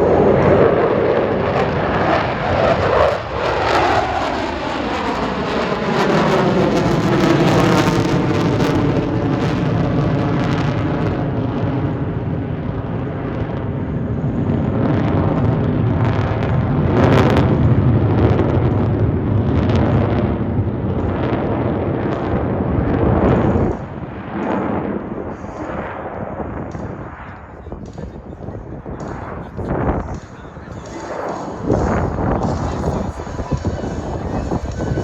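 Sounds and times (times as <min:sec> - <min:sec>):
jet engines roaring with crackle: 0:00.0 - 0:35.0.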